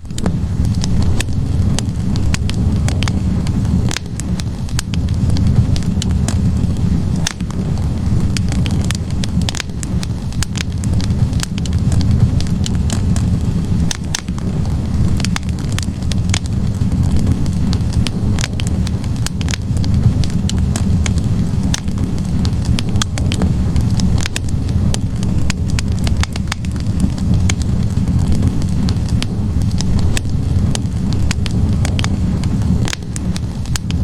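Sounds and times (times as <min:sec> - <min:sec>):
low rumble of flames: 0:00.0 - 0:34.0
wood fire crackling: 0:00.0 - 0:34.0.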